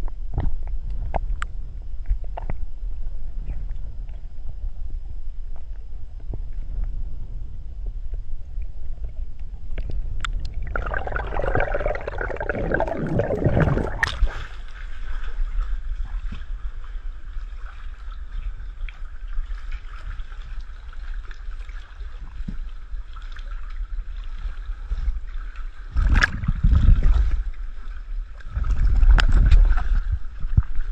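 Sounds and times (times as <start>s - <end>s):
water sloshing and gurgling underwater: 0.0s - 30.9s.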